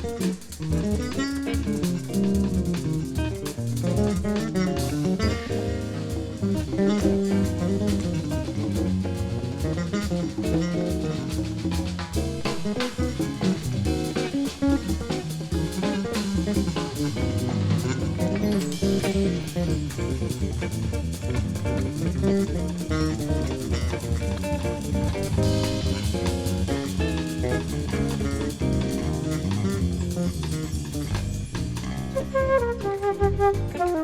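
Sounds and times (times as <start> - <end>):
guitar playing: 0.0 - 34.0
live instrumental band music: 0.0 - 34.0.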